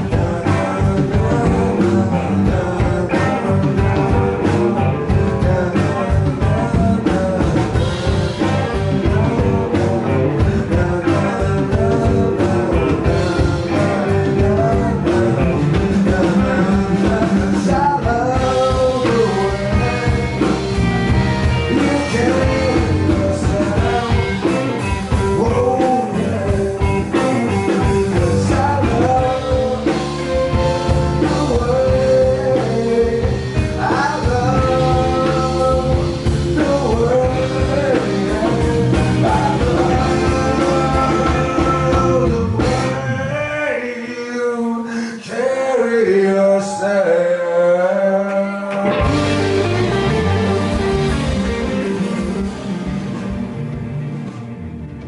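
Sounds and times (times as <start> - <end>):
lead guitar melody bending: 0.0 - 43.2, 48.8 - 55.0
steady drum beat: 0.0 - 43.3, 48.8 - 55.0
blues-rock band playing: 0.0 - 44.4, 45.8 - 55.0.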